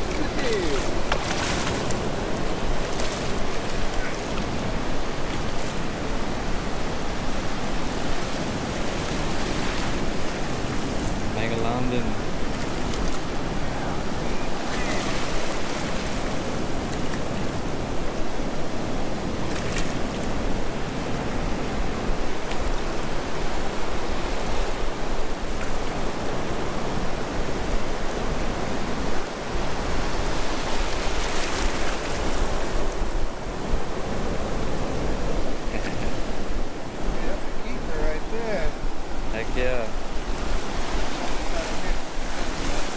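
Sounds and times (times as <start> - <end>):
surf washing over sand: 0.0 - 42.9
wind rumbling on microphone: 0.0 - 42.9.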